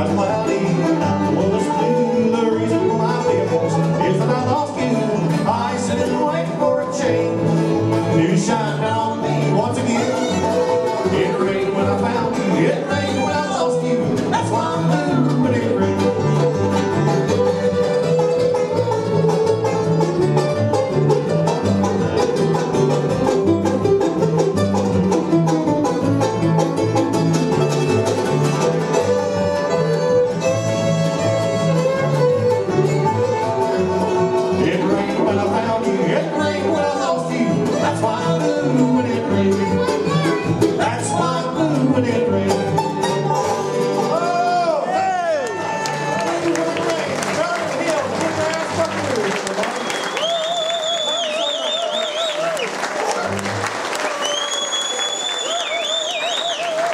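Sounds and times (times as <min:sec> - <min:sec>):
fiddle: 0:00.0 - 0:49.7
banjo rolls: 0:00.0 - 0:54.4
guitar: 0:00.0 - 0:56.9.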